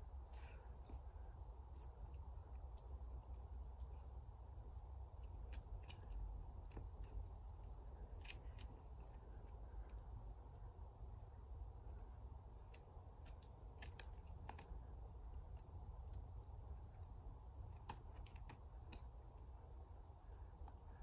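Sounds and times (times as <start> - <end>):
faint low rumble: 0.0 - 21.0.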